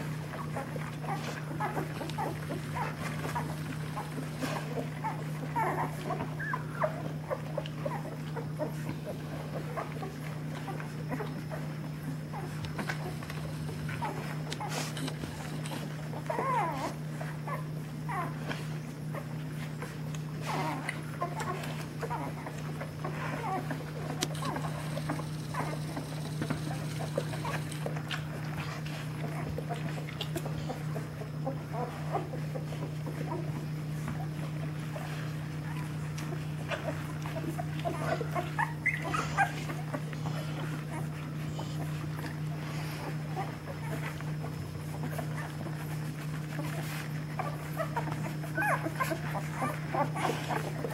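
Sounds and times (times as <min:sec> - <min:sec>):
puppies squeaking and whimpering: 0:00.0 - 0:50.9
steady low hum: 0:00.0 - 0:50.9.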